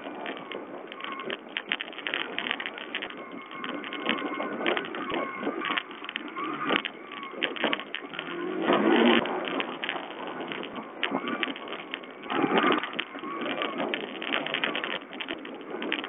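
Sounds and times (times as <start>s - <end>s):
rattling and knocking of bike: 0.0s - 16.0s.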